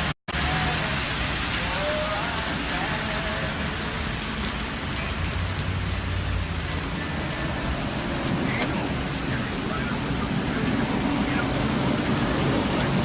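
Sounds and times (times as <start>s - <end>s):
rain splashing on hard surfaces: 0.0s - 13.0s.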